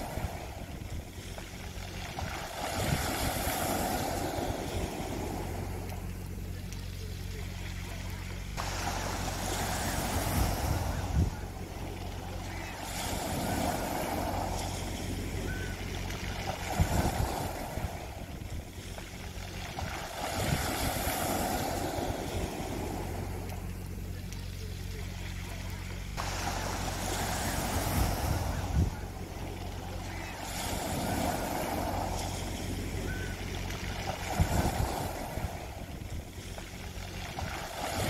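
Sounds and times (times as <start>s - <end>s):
low mechanical hum: 0.0s - 38.0s
waves washing on pebble beach: 0.0s - 38.0s.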